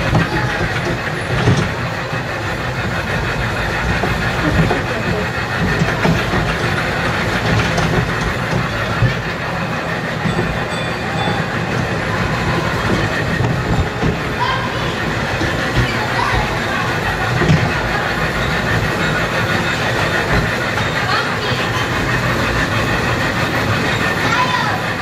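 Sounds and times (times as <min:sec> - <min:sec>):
ride train rumbling on track: 0:00.0 - 0:25.0.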